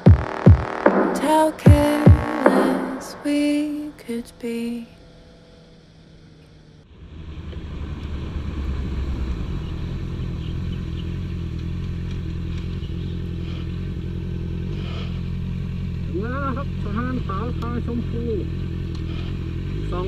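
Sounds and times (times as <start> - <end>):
motorcycle engine running: 0.0 - 4.2, 4.9 - 20.0.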